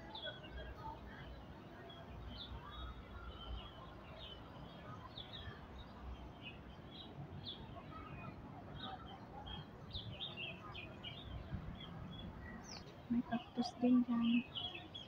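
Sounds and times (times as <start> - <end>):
small birds chirping: 2.0 - 15.0.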